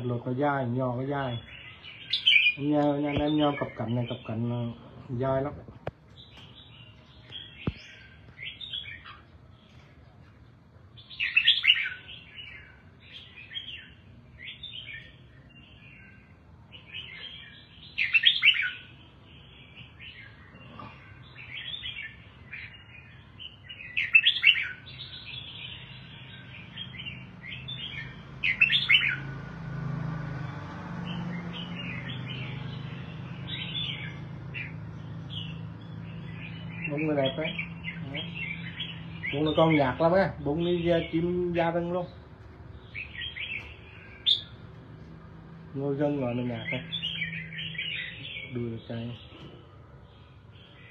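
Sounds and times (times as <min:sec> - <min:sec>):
bird chirping song: 0:00.0 - 0:50.9.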